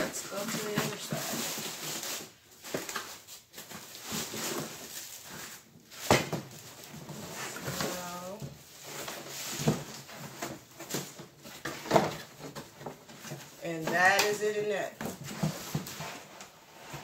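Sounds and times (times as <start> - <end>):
cardboard box rustling: 0.0 - 17.0.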